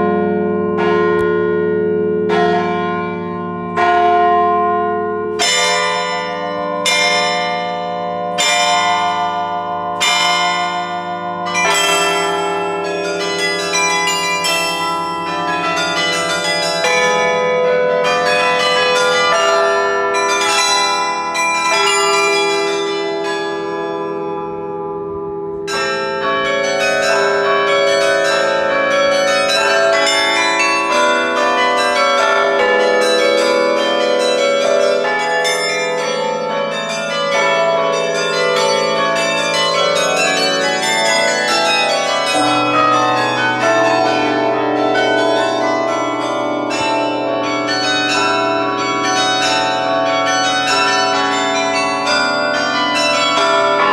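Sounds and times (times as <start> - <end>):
carillon bells playing a melody: 0.0 - 53.9.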